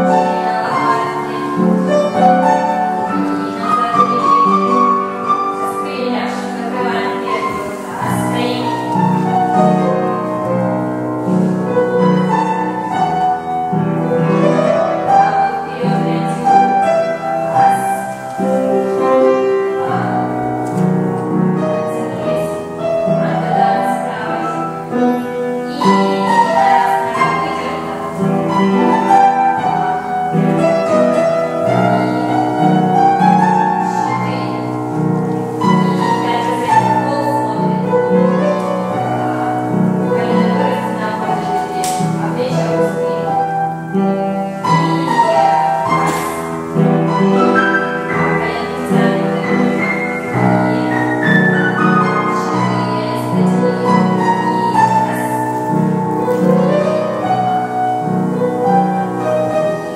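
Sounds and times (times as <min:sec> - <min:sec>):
classical piano music: 0:00.0 - 0:59.9.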